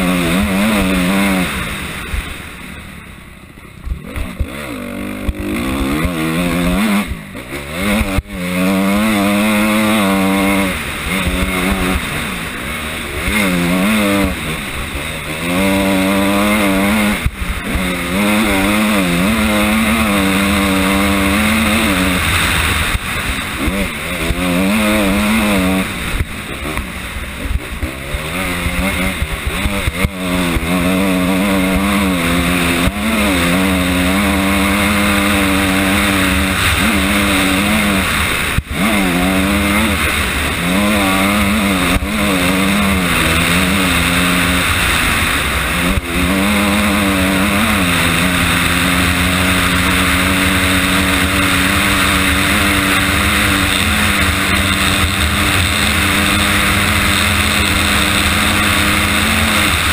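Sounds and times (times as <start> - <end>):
motorcycle engine revving: 0.0 - 59.9
steady rushing hiss: 0.0 - 59.9.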